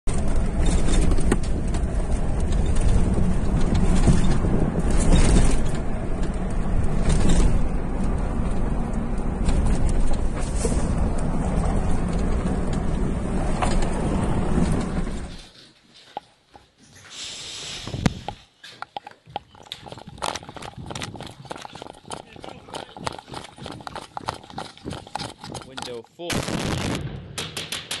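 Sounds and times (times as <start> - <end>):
vehicle engine and road rumble: 0.0 - 16.8, 17.8 - 27.2
knocks and rattles: 0.1 - 16.3, 18.1 - 26.1, 27.4 - 28.0.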